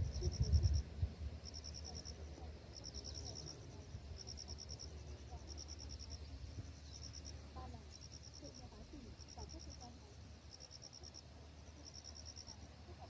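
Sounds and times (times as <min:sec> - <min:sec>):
insect chirping: 0:00.0 - 0:13.0.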